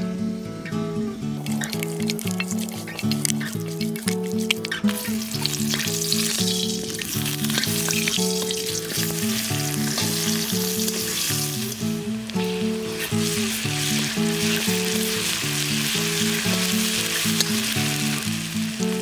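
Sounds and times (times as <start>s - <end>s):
background music with low notes: 0.0s - 19.0s
food sizzling in hot oil: 1.4s - 19.0s.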